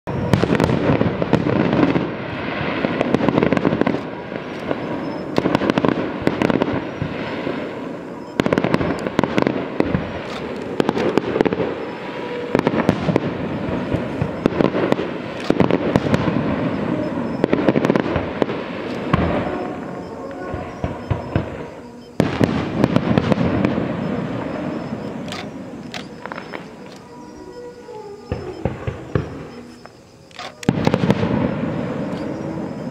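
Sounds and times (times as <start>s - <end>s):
fireworks bangs and crackling: 0.1s - 32.9s.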